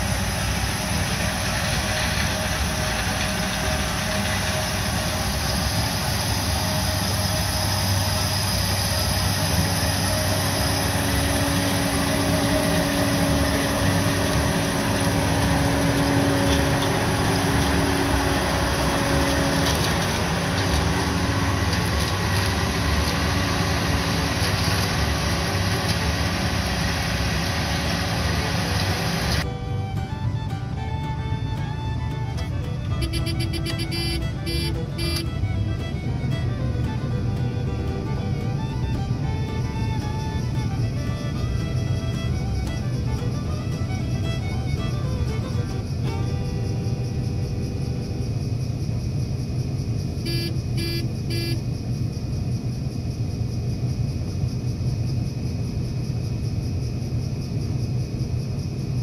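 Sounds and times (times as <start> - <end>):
combine harvester droning: 0.0 - 58.3.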